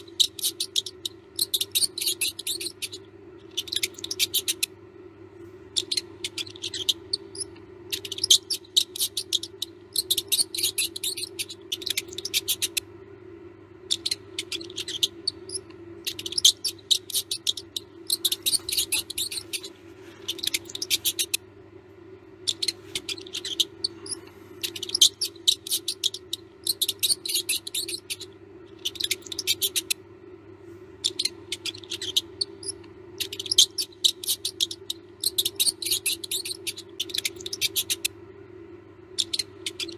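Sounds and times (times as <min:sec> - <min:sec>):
mouse squeaking and scratching: 0:00.0 - 0:04.8, 0:05.6 - 0:12.9, 0:13.8 - 0:21.5, 0:22.4 - 0:30.0, 0:31.0 - 0:38.2, 0:39.1 - 0:39.9
steady low hum: 0:00.0 - 0:39.9.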